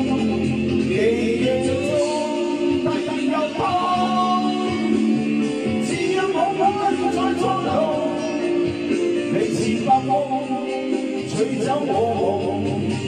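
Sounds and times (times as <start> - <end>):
backing track with guitar: 0.0 - 13.0
man singing karaoke: 0.0 - 13.0.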